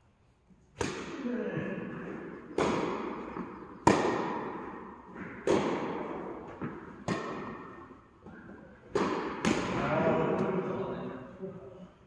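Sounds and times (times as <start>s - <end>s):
tennis balls struck by rackets: 0.7s - 10.8s.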